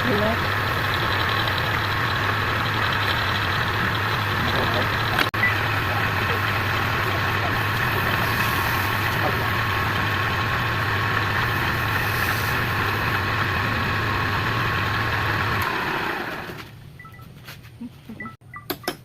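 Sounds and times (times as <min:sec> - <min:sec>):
wood lathe humming: 0:00.0 - 0:16.6.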